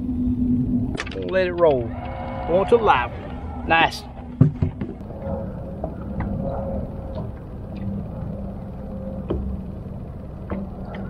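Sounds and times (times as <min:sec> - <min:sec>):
boat engine rumble: 0:00.0 - 0:11.0
faint steady hum: 0:00.0 - 0:11.0.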